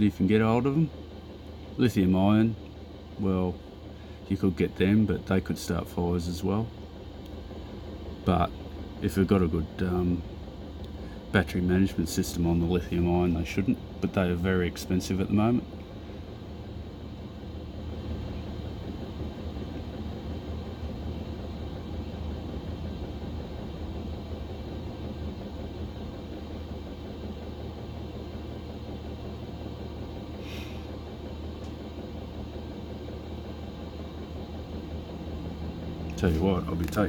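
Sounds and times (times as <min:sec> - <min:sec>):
heater blower fan humming: 0:00.0 - 0:37.0.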